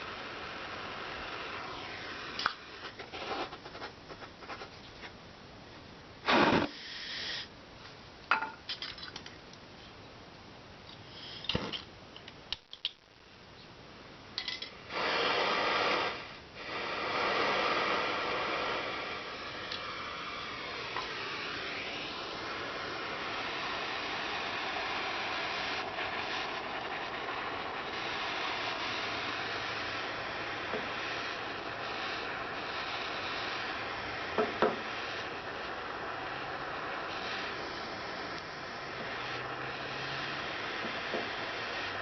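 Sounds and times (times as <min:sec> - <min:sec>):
steady rushing hiss: 0:00.0 - 0:08.1, 0:09.7 - 0:42.0.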